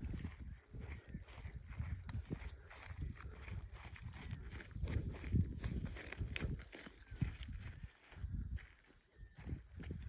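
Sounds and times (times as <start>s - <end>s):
footsteps on rough ground: 0.0s - 10.0s.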